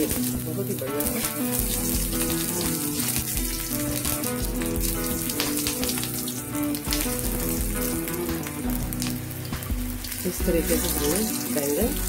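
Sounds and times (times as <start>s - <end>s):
background music: 0.0s - 12.0s
eggplant sizzling in hot oil: 0.0s - 12.0s.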